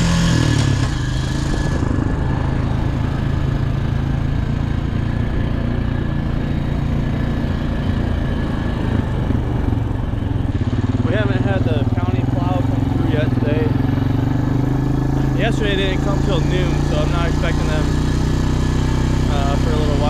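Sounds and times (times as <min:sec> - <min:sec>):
quad engine running: 0:00.0 - 0:20.0.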